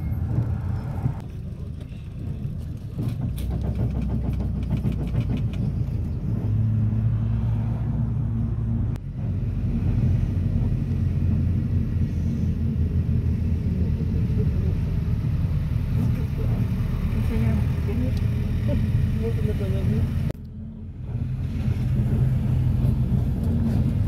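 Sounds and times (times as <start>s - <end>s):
minibus engine rumble: 0.0s - 24.0s
road noise: 0.0s - 24.0s.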